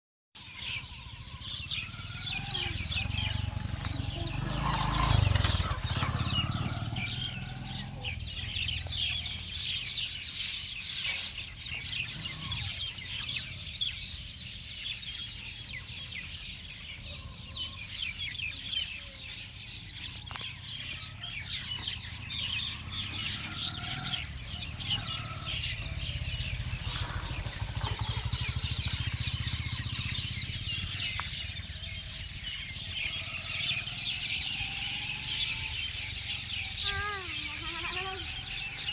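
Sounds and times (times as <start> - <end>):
small birds chirping: 0.4 - 38.9.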